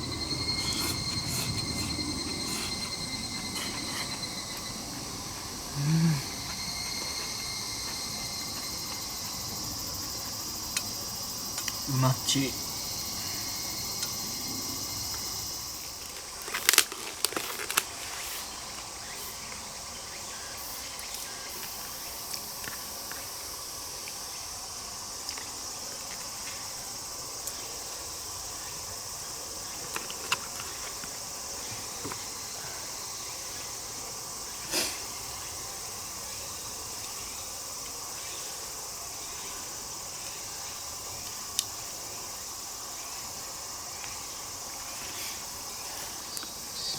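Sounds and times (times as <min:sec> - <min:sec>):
crickets and insects chirring: 0:00.0 - 0:46.9.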